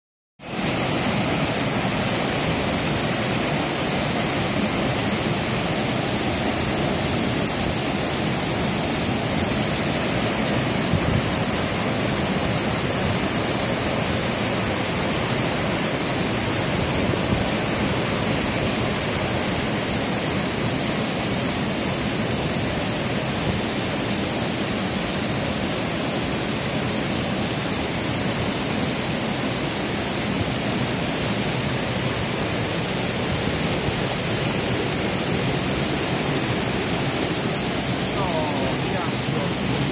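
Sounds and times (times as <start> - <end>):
waterfall rushing: 0.4 - 39.9.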